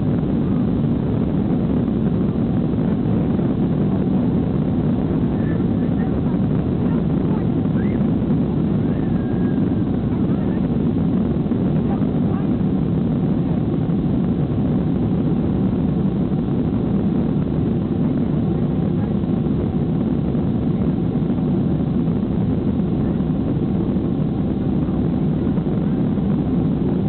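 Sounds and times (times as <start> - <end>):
jet engines roaring in cabin: 0.0 - 27.0.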